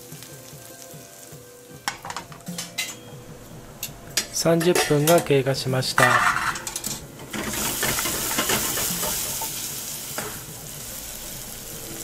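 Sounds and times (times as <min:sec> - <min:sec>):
onions sizzling in a saucepan: 0:00.0 - 0:12.0.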